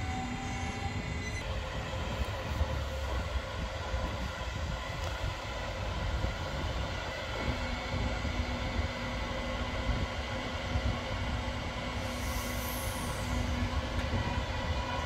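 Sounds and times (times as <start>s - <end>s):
electric locomotive whining hum: 0.0s - 15.0s.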